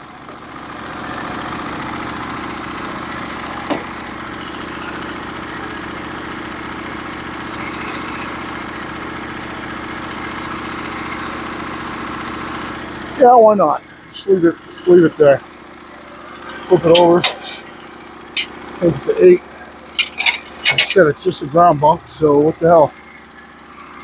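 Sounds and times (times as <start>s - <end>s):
bandsaw mill gas engine running: 0.0s - 24.0s.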